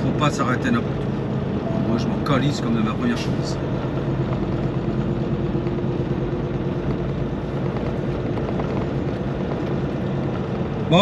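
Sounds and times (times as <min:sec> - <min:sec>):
road noise: 0:00.0 - 0:11.0
truck diesel engine drone: 0:00.0 - 0:11.0.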